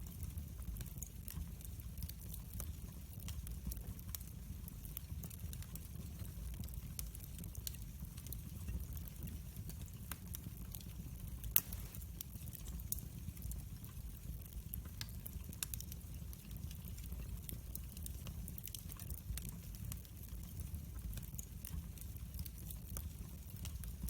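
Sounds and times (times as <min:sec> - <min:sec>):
burning wood crackles and snaps: 0:00.0 - 0:24.0
low rumble of flames: 0:00.0 - 0:24.0.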